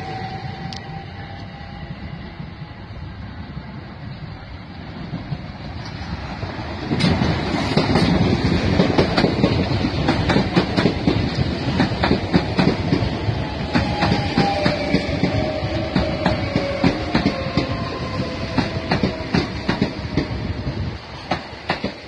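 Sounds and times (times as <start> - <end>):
passenger train passing at speed: 0.0 - 22.0.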